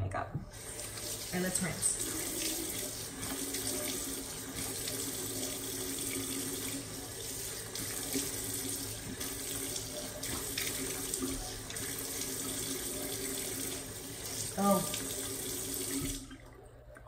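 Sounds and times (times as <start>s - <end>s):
tap water running into basin: 0.4s - 17.0s.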